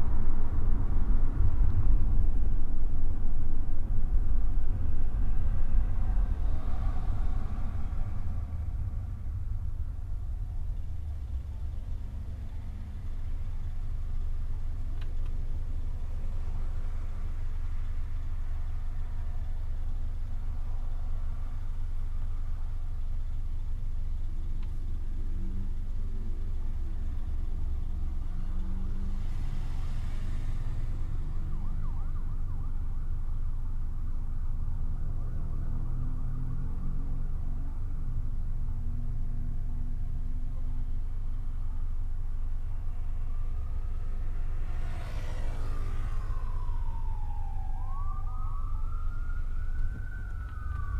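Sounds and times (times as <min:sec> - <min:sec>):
car driving on road: 0:00.0 - 0:50.9.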